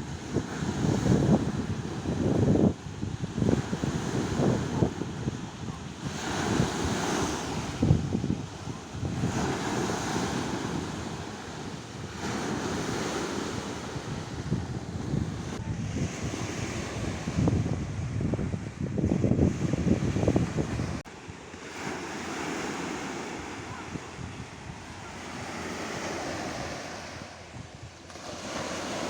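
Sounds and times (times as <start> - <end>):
wind buffeting microphone: 0.0 - 21.1, 23.4 - 29.0
sea surf washing ashore: 0.0 - 29.0.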